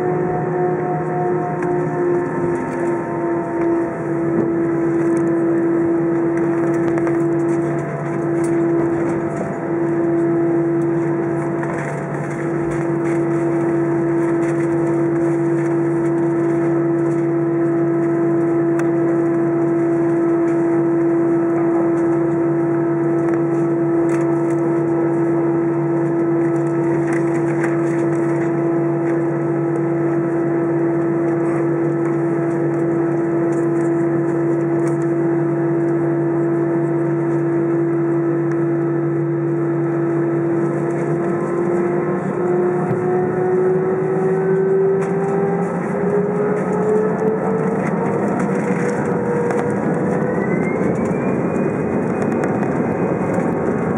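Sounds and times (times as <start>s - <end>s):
jet engines droning hum: 0.0s - 53.9s.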